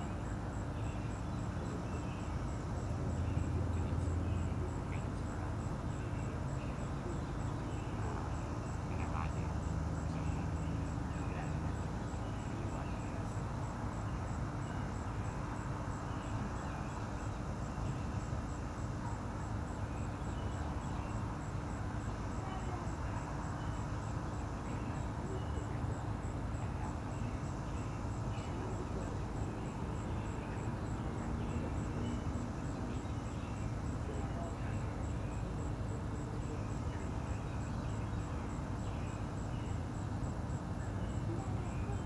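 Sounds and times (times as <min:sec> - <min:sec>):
outdoor rumble with low hum: 0:00.0 - 0:42.0.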